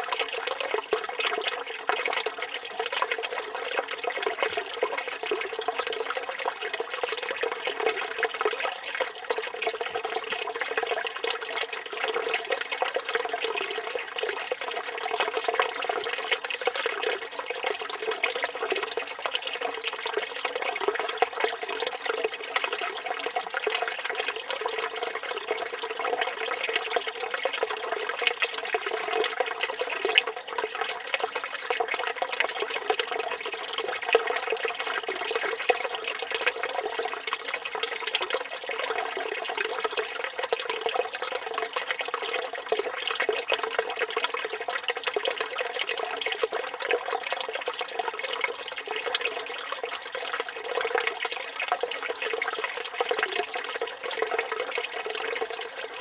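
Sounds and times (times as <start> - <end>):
fountain water running and splashing: 0.0 - 56.0.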